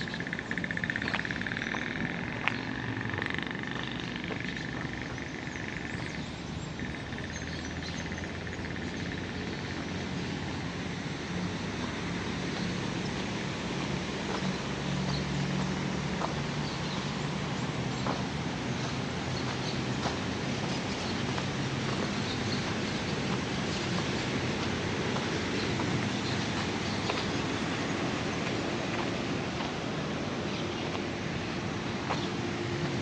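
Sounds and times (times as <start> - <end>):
frogs trilling: 0.0 - 32.3
low engine hum: 0.0 - 33.0.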